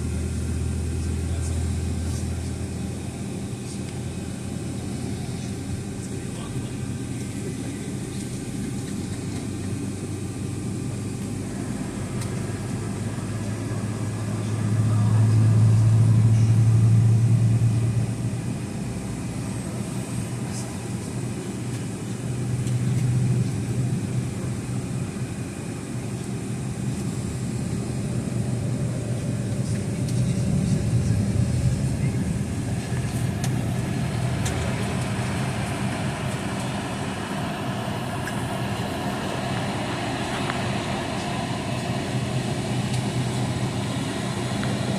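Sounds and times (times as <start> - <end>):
jet engines humming in cabin: 0.0 - 44.9.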